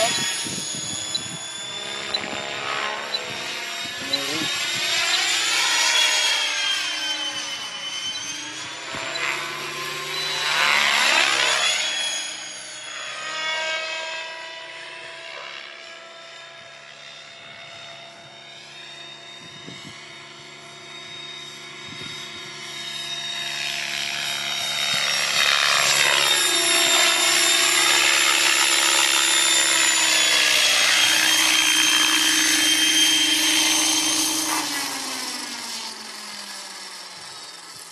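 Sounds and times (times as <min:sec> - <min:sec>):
radio-controlled helicopter whine: 0:00.0 - 0:37.9.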